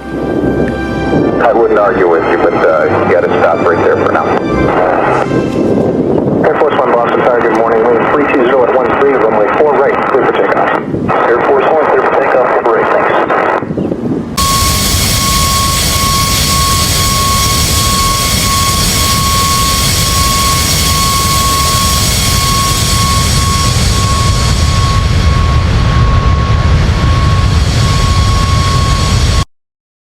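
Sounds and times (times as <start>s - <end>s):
high jet whine: 0.0s - 29.5s
jet engines roaring: 0.0s - 29.5s.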